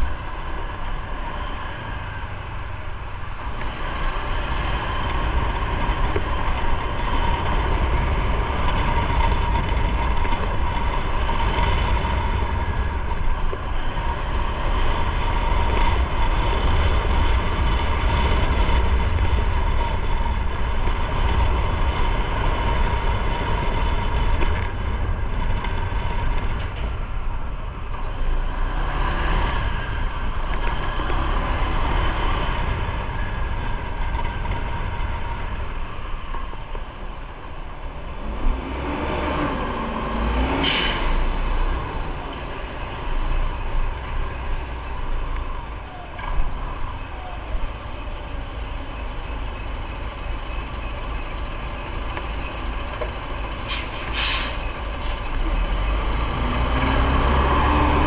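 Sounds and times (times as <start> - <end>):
motorcycle engine and road noise: 0.0 - 58.0
wind rumble on microphone: 0.0 - 58.0.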